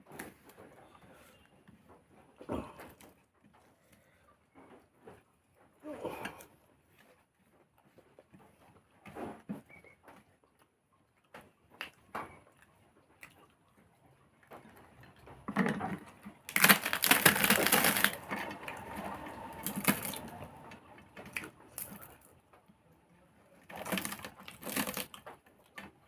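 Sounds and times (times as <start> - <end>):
chewing and crunching crisp food: 0.0 - 26.0.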